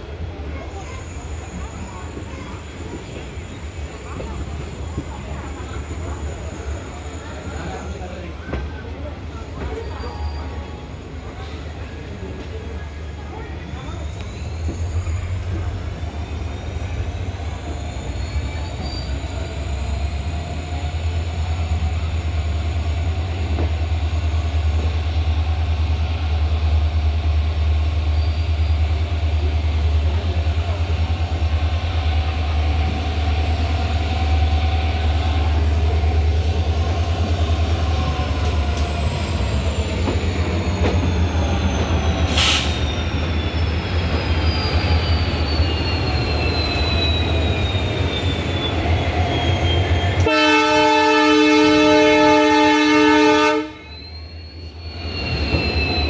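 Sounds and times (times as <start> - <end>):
train rumble on rails: 0.0 - 56.0
high wheel squeal: 0.7 - 8.1, 9.6 - 11.2, 13.7 - 25.6, 27.9 - 50.3, 52.1 - 56.0.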